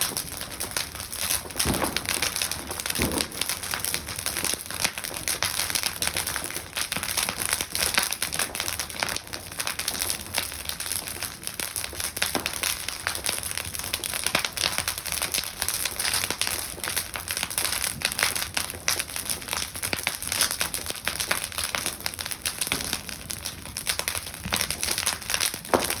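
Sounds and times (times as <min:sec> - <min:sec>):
bonfire crackling: 0:00.0 - 0:26.0.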